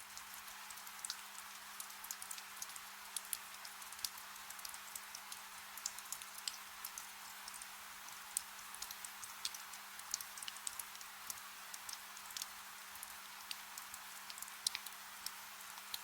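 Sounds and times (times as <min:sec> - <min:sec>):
soft rain falling: 0:00.0 - 0:16.0.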